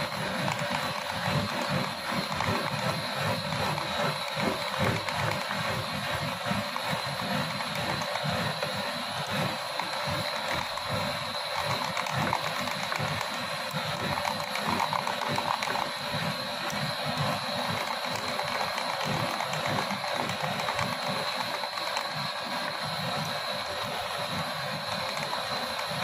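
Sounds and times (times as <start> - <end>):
small machine running: 0.0 - 26.0.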